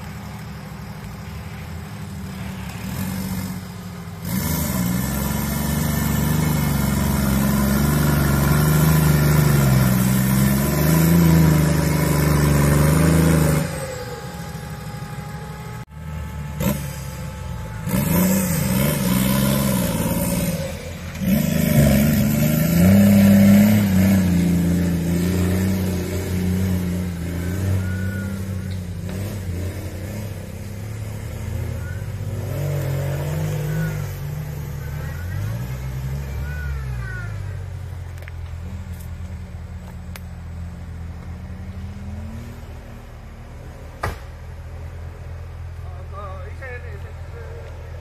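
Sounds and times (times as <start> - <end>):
engine revving under load: 0.0 - 48.0.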